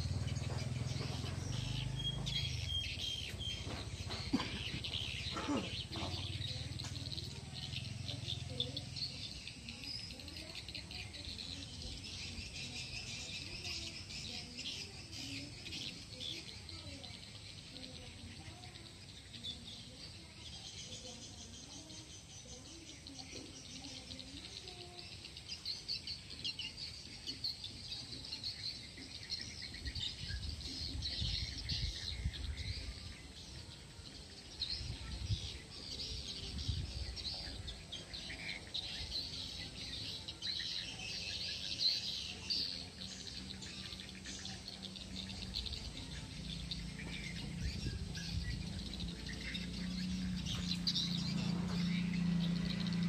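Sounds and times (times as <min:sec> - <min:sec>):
insects and birds chirping: 0:00.0 - 0:53.0.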